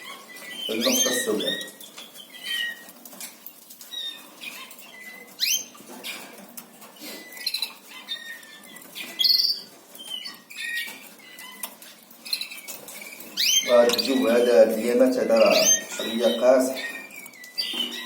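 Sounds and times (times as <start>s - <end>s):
canaries chirping: 0.0s - 18.0s.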